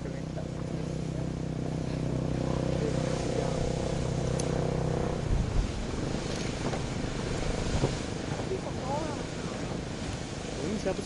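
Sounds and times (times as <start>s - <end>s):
low bumps: 0.0s - 10.5s
low hum: 0.0s - 11.0s
water splashing: 0.0s - 11.0s
geyser steam rushing: 0.6s - 11.0s.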